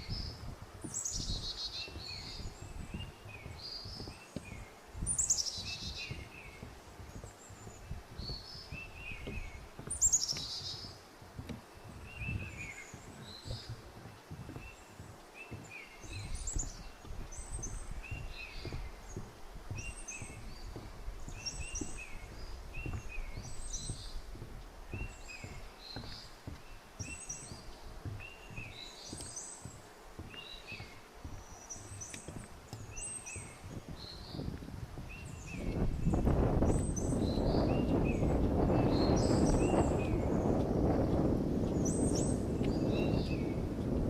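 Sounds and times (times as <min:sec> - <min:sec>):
birds singing: 0:00.0 - 0:44.0
footsteps on forest trail: 0:00.0 - 0:44.0.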